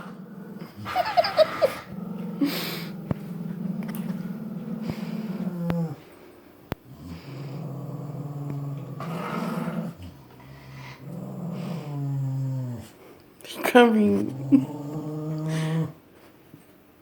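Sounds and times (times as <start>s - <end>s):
dog growling: 0.0s - 6.1s, 6.8s - 13.0s, 13.9s - 16.0s.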